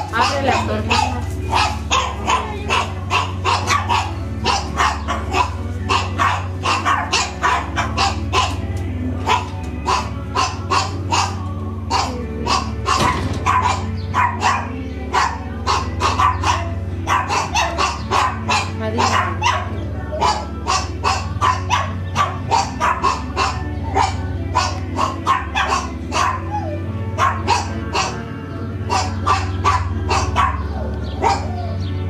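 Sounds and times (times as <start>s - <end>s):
dog barking rapidly: 0.0s - 28.2s, 28.8s - 31.7s.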